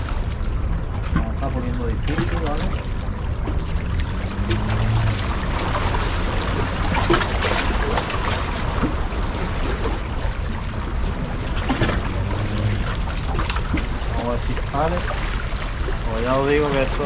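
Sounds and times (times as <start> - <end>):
heavy low rumble: 0.0 - 17.0
sea water washing against rocks: 0.0 - 17.0
small water splashes: 0.0 - 17.0.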